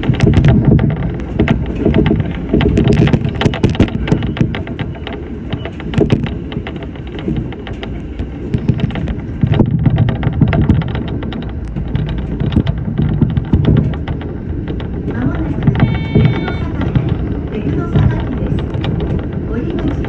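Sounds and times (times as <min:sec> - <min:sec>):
electric train rumbling: 0:00.0 - 0:20.0
rattles and clicks: 0:00.0 - 0:20.0.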